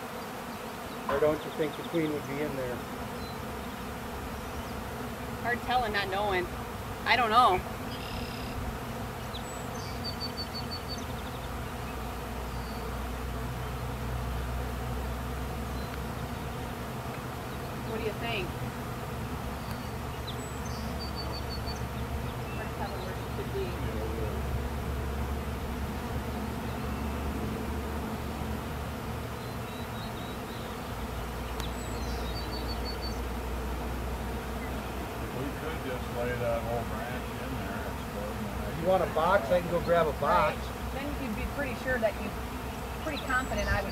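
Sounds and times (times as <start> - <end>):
honey bees buzzing: 0.0 - 43.9.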